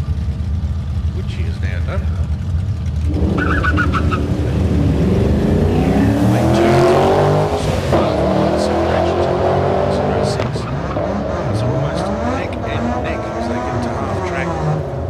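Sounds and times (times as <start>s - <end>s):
drag car engines accelerating: 0.0s - 15.0s.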